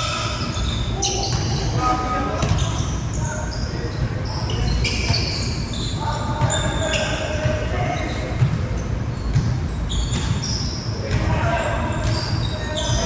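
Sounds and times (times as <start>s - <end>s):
sneaker squeaks: 0.0s - 13.0s.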